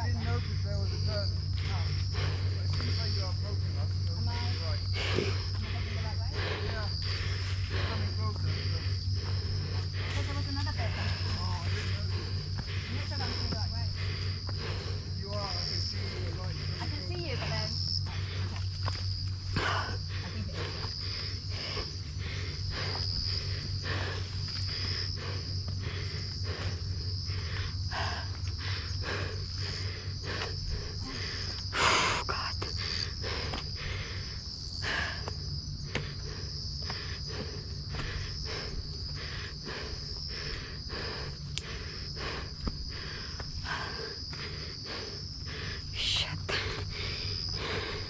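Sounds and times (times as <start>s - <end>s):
footsteps on dirt trail: 0.0s - 31.7s, 32.4s - 48.0s
insects chirping: 0.0s - 48.0s.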